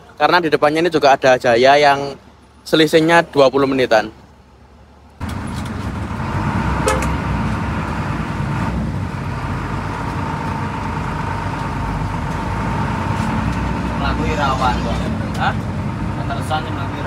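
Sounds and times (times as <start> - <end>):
diesel engine rumble: 0.0 - 17.0.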